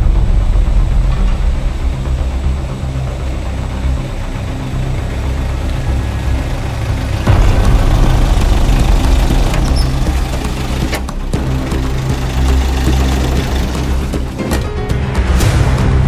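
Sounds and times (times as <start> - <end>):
vehicle engine rumbling: 0.0 - 15.3.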